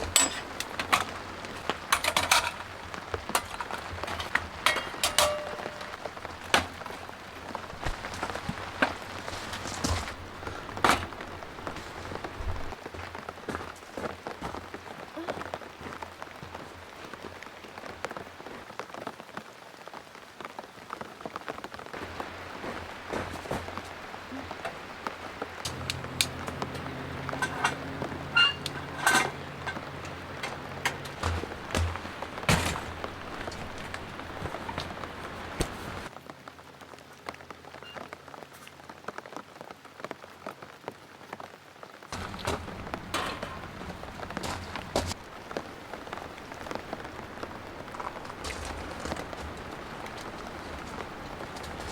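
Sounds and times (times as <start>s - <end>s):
rain drops hitting a surface: 0.0s - 51.9s
rain hiss: 0.0s - 51.9s.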